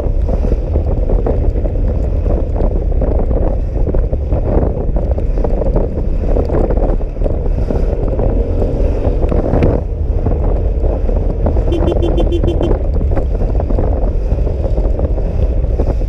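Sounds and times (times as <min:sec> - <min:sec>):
scooter running and road noise: 0:00.0 - 0:16.0
wind buffeting microphone: 0:00.0 - 0:16.0.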